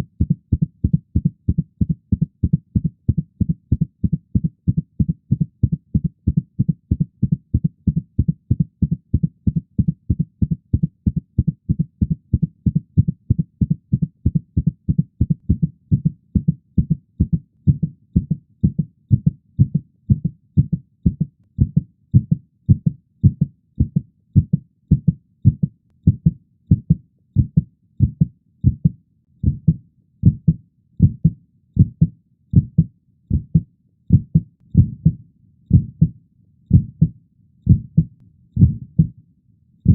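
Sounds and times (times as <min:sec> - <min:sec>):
heartbeat thumps: 0:00.0 - 0:39.2.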